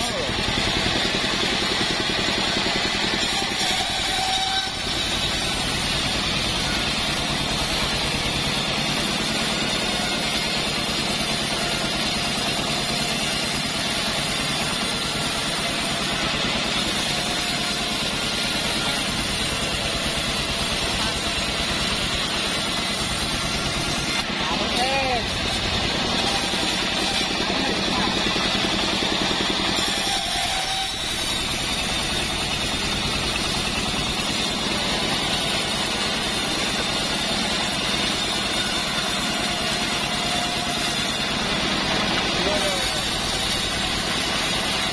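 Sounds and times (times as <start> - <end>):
bandsaw mill engine running: 0.0 - 44.9
blade sawing through log: 0.0 - 44.9.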